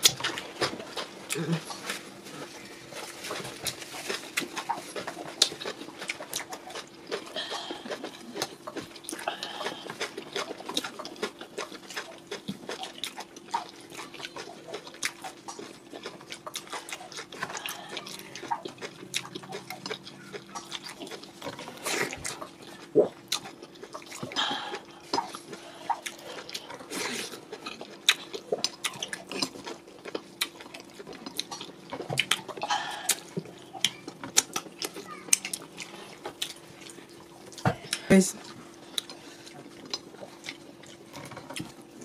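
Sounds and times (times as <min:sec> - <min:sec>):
chewing and wet lip-smacking: 0:00.0 - 0:42.0
faint steady hum: 0:00.0 - 0:42.0.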